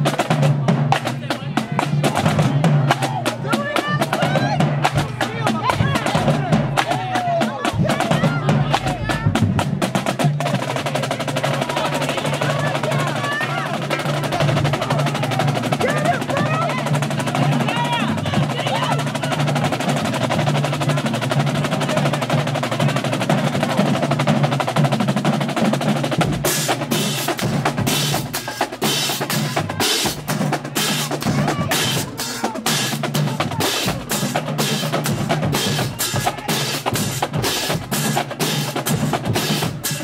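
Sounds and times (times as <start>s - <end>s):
drum and cymbal hits: 0.0s - 40.0s
snare drum roll: 0.0s - 40.0s.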